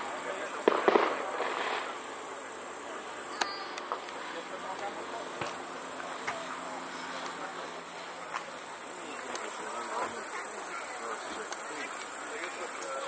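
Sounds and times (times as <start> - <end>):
crickets chirping: 0.0 - 13.0
faint crowd chatter: 0.0 - 13.0.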